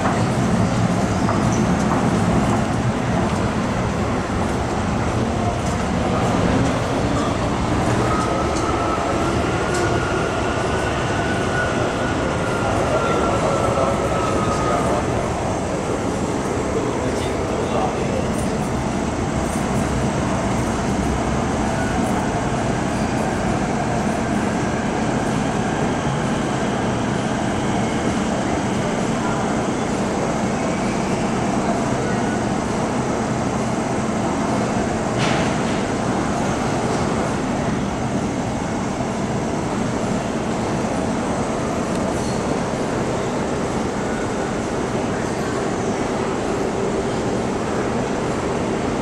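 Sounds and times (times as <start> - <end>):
train wheel and rail noise: 0.0 - 49.0.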